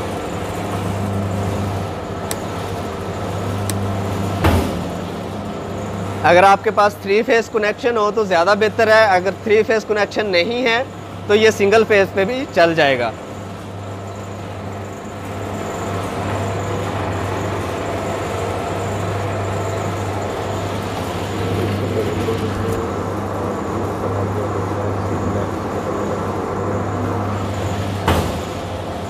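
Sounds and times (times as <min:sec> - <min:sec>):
extruder motor humming: 0:00.0 - 0:29.0.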